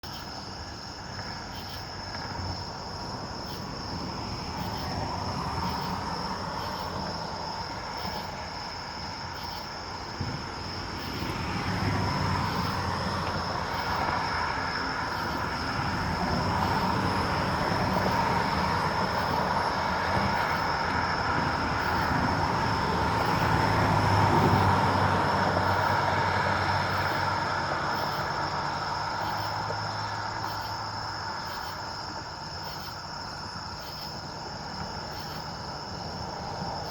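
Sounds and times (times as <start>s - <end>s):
distant vehicle rumble: 0.0s - 36.9s
night insects chirring: 0.0s - 36.9s.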